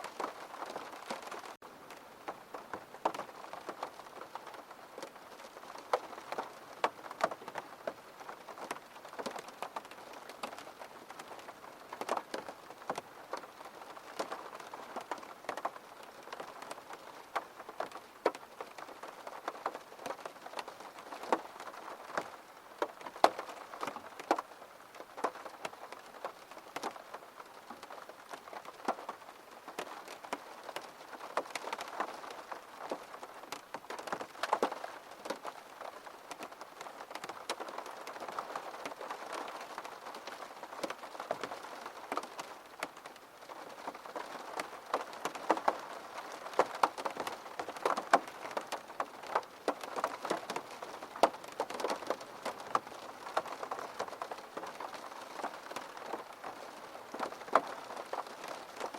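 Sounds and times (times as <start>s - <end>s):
gentle rain pattering: 0.0s - 58.9s.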